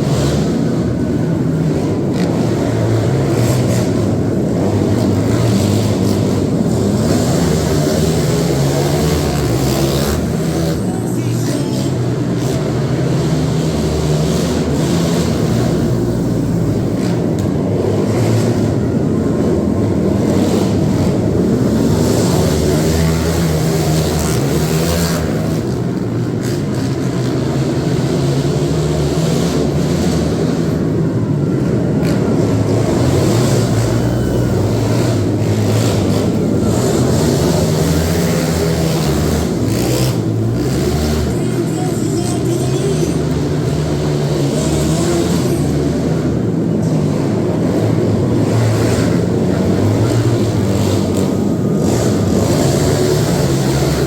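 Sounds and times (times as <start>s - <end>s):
motor vehicle engines revving: 0.0s - 54.0s.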